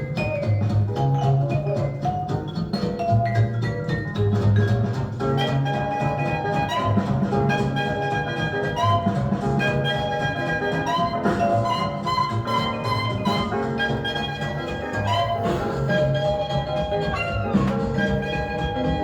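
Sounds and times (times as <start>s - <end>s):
instrumental music from loudspeakers: 0.0s - 19.0s.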